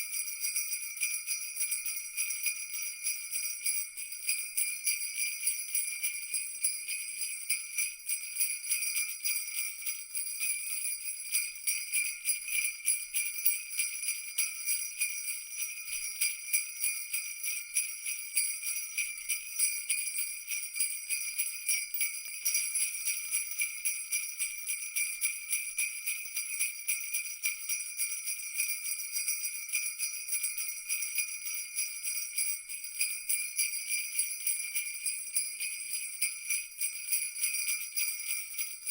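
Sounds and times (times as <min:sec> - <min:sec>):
jingle bells shaken: 0:00.0 - 0:38.9.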